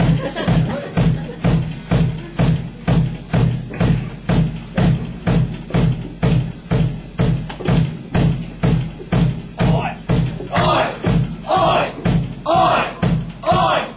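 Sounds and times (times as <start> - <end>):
drum hits: 0.0 - 13.9
rock band playing: 0.0 - 13.9.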